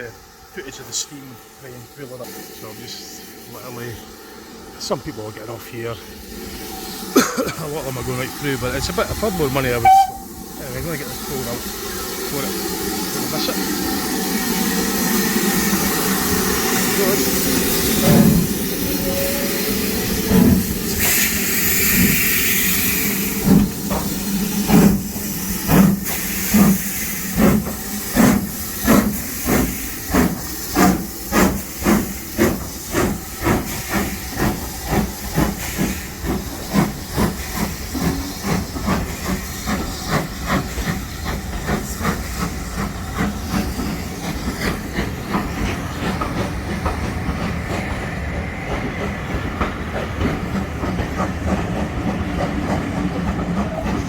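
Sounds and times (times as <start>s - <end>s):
steam hiss: 0.0s - 54.0s
steam locomotive exhaust chuffs: 0.0s - 54.0s.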